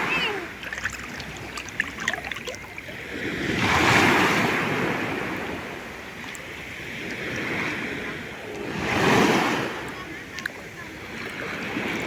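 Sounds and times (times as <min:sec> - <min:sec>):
sea waves washing in: 0:00.0 - 0:12.0.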